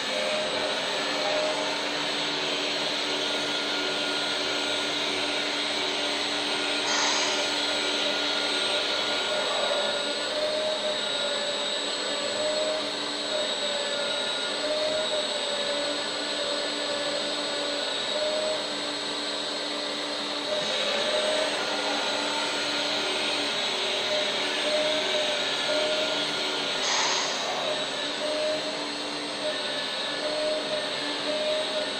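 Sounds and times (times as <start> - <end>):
electric hydraulic pump whining: 0.0 - 31.9.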